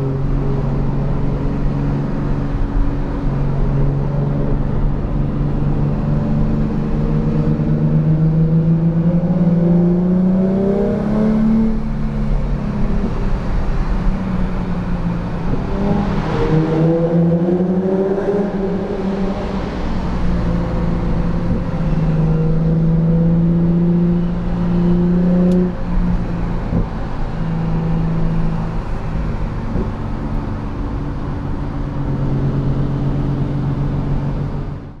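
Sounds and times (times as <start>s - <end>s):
car engine while driving: 0.0s - 35.0s
road and tyre noise: 0.0s - 35.0s.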